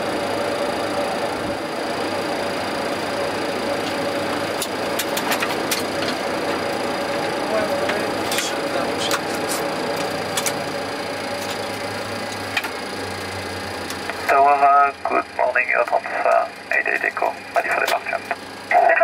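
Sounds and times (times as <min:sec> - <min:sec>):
engine hum and hiss: 0:00.0 - 0:19.0
thin steady whine: 0:00.0 - 0:19.0.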